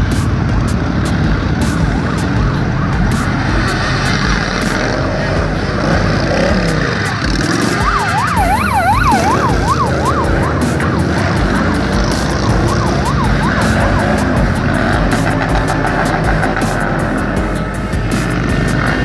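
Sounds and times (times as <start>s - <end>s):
motorcycle engines passing: 0.0s - 19.0s
warbling siren: 1.5s - 16.9s.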